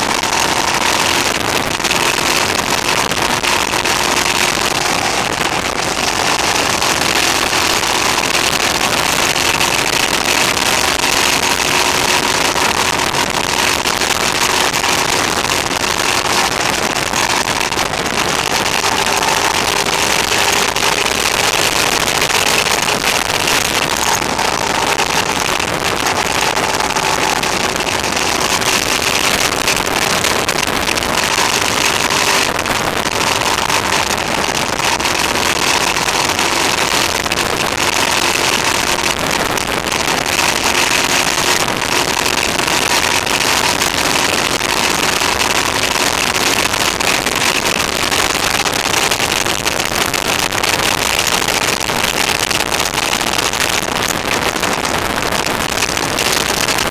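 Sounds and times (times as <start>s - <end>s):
motorcycle engine hum: 0.0s - 56.9s
wind rush on microphone: 0.0s - 56.9s.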